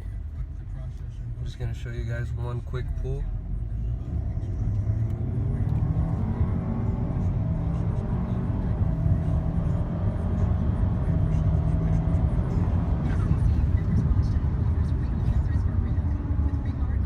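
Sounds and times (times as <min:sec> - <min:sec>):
car engine accelerating: 0:03.3 - 0:17.0.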